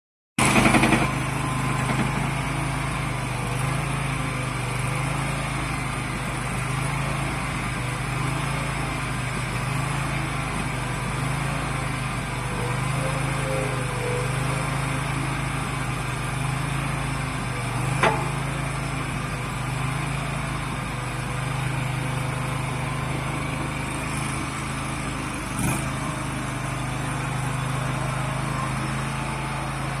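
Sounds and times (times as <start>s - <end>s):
loader engine running: 0.4s - 30.0s.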